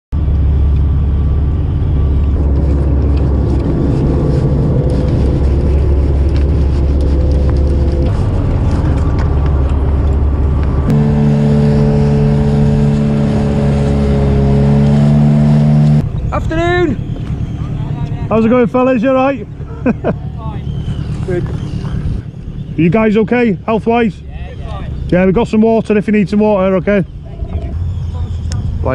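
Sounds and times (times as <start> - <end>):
boat engines running: 0.2 - 28.9.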